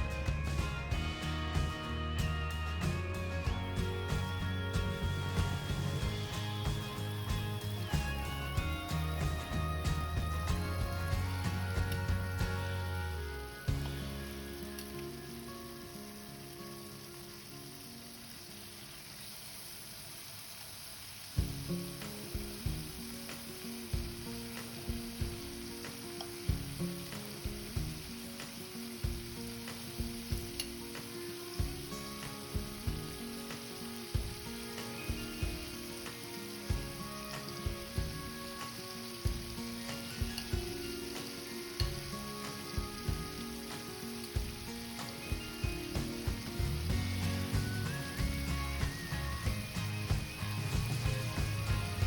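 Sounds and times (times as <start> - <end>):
chicken sizzling in a pan: 3.8 - 52.0.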